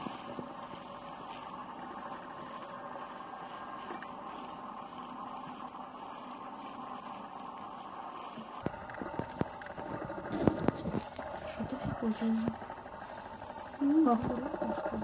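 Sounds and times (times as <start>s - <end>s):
plastic gloves crinkling: 0.0s - 14.8s
steady background hiss: 0.0s - 15.0s.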